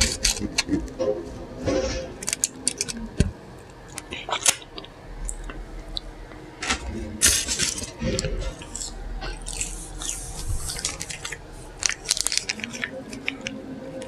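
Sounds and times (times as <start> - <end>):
food wrapping crinkling: 0.0 - 0.8, 2.0 - 5.5, 6.8 - 14.0.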